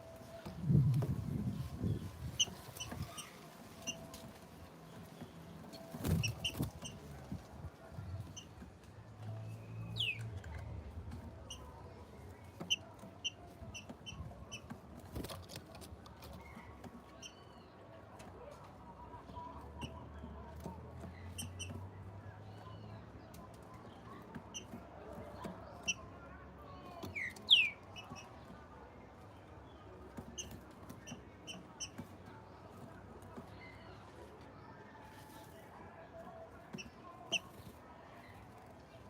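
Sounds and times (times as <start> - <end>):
small birds chirping: 0.3 - 39.0.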